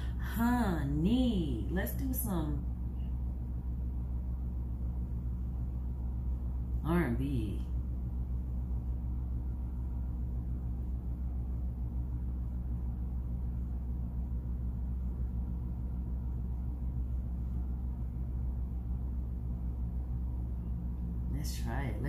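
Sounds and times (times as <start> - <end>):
steady low hum with rumble: 0.0 - 22.0.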